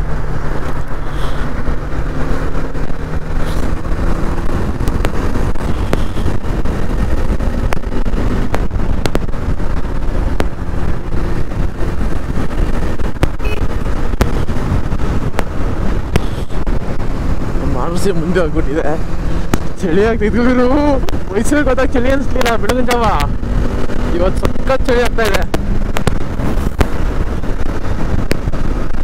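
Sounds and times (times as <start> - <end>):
motorcycle engine: 0.0 - 29.0
wind rushing over microphone: 0.0 - 29.0.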